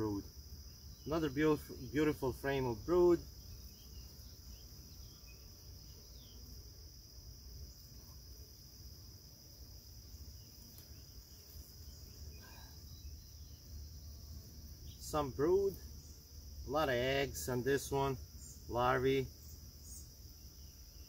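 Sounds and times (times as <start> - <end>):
honeybees humming: 0.0 - 21.0
insects droning: 0.0 - 21.0.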